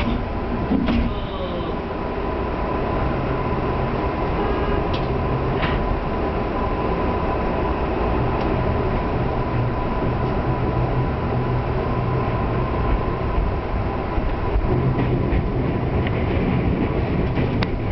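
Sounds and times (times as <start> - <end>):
train wheels rumbling on rail: 0.0 - 17.9.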